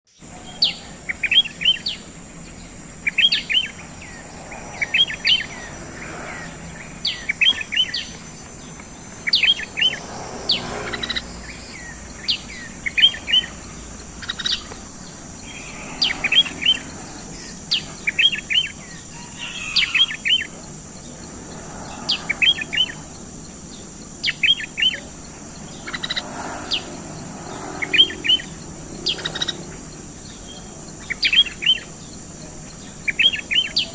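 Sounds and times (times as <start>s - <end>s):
bird chirping song: 0.1s - 33.9s
high insect buzz: 0.2s - 33.9s.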